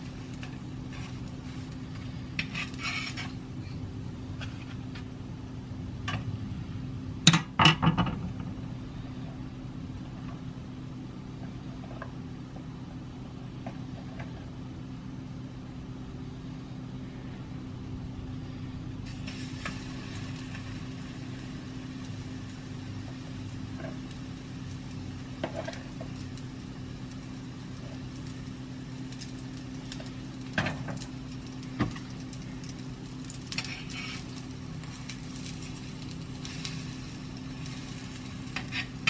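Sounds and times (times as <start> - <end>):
range hood fan humming: 0.0 - 39.0.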